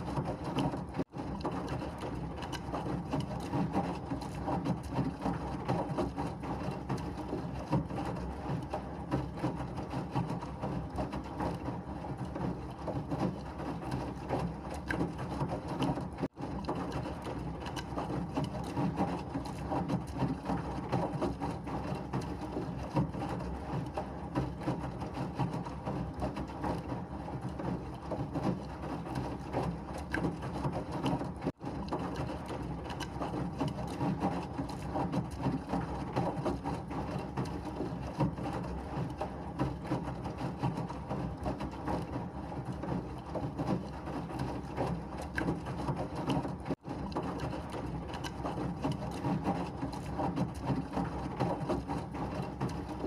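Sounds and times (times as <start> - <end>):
washing machine running: 0.0 - 53.0.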